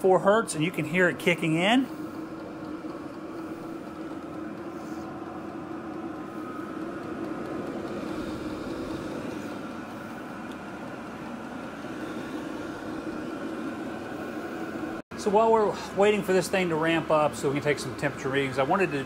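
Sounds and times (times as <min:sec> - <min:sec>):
heater fans humming: 0:00.0 - 0:19.0.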